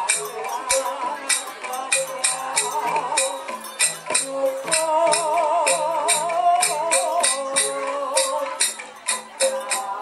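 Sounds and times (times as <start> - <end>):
wavering vibrato melody: 0.0 - 10.0.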